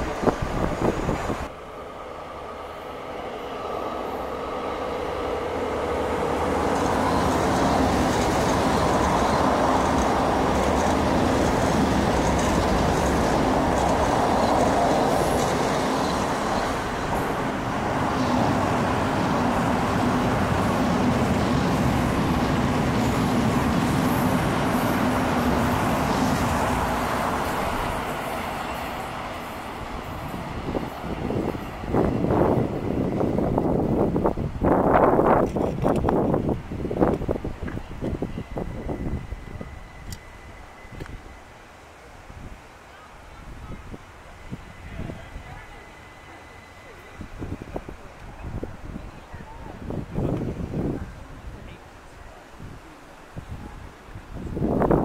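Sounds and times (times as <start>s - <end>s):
train wheels rumbling on rails: 0.0s - 42.6s, 43.3s - 52.8s.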